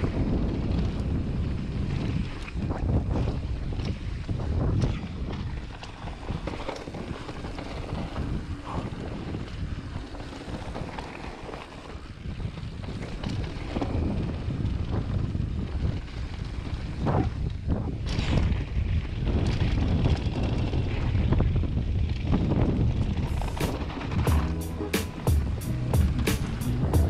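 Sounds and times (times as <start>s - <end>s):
wind on microphone: 0.0s - 24.5s
bike tyres rumbling on dirt: 0.0s - 27.0s.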